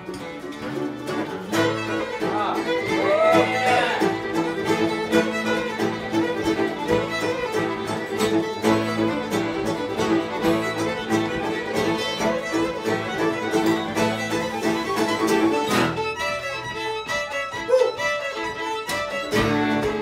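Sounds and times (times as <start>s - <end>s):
fiddles playing melody: 0.0s - 20.0s
mandolin: 0.0s - 20.0s
strummed acoustic guitar: 0.0s - 20.0s.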